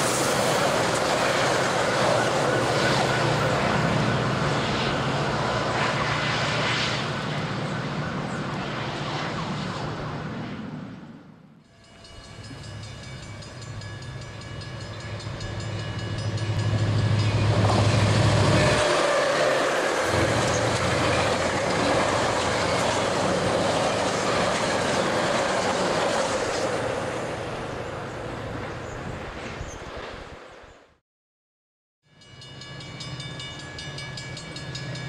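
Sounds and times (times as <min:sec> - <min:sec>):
low train engine drone: 0:00.0 - 0:30.4
train cars and wheels rushing: 0:00.0 - 0:30.9, 0:32.1 - 0:35.0.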